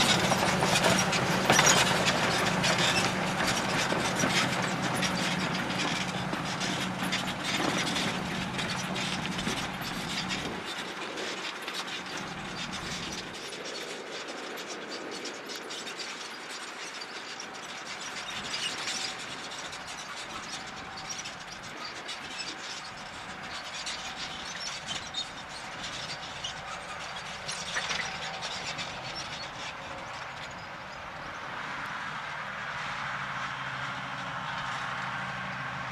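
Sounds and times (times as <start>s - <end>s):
tractor engine running: 0.0s - 13.8s, 17.4s - 35.9s.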